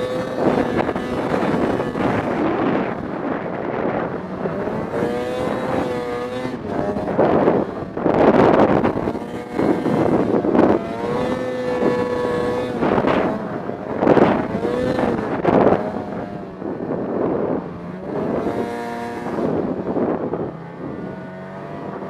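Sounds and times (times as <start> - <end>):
snowmobile engine running: 0.0 - 22.0.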